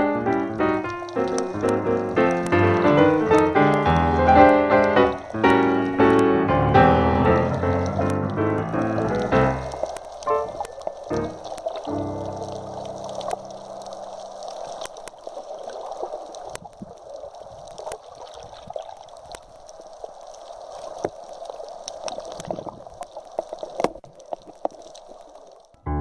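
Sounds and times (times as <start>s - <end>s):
water gurgling: 0.0s - 26.0s.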